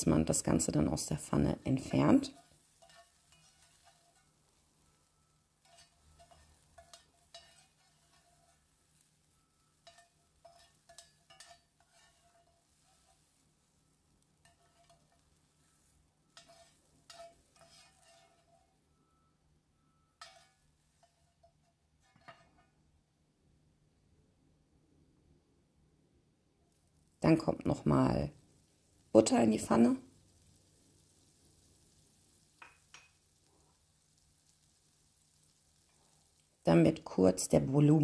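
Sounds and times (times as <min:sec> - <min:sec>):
utensil scraping frying pan: 0:00.0 - 0:22.8, 0:26.8 - 0:36.5.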